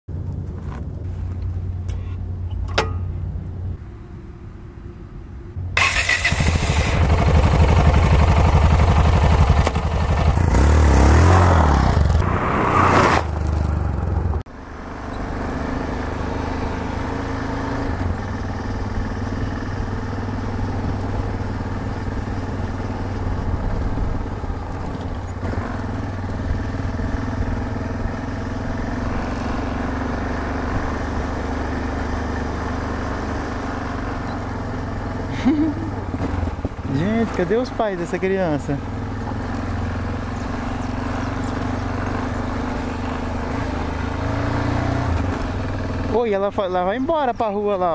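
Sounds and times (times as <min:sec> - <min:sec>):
single-cylinder motorcycle engine: 0:05.7 - 0:12.2, 0:13.3 - 0:47.9.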